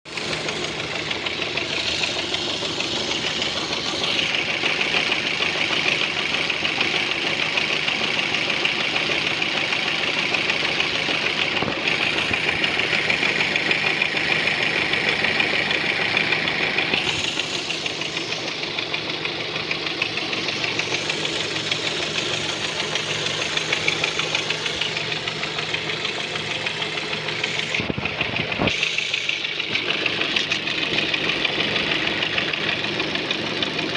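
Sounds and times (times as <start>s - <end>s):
car engine knocking and ticking: 0.0s - 33.9s.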